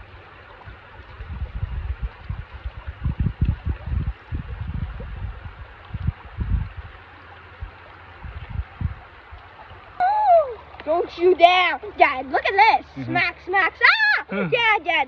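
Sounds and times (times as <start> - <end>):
wind buffeting microphone: 0.0 - 12.4
stream water rushing: 0.0 - 15.0.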